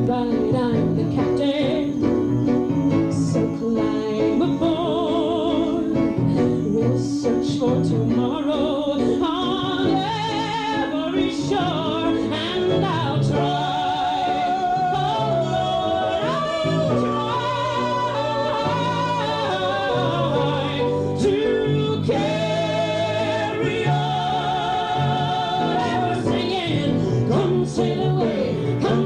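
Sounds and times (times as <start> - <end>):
instrumental accompaniment: 0.0 - 29.0
woman singing with vibrato: 0.0 - 29.0.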